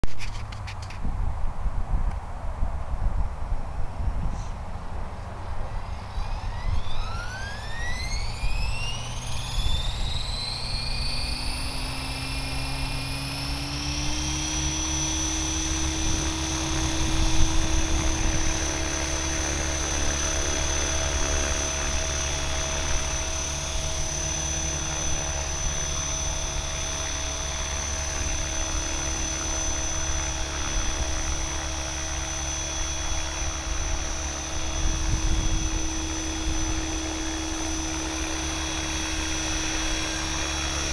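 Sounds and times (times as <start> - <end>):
rc helicopter motor whine: 0.1 - 1.1, 3.6 - 40.9
wind rumbling on microphone: 0.1 - 40.9.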